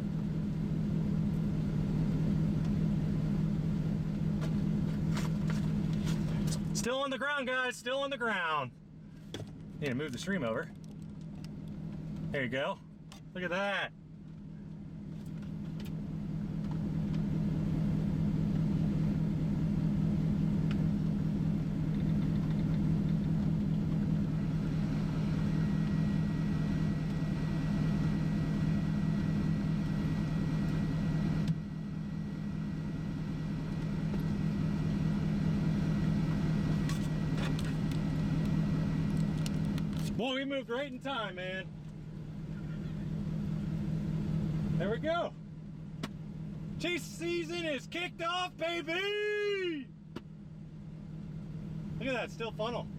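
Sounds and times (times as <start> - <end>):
car engine and road drone: 0.0 - 52.9.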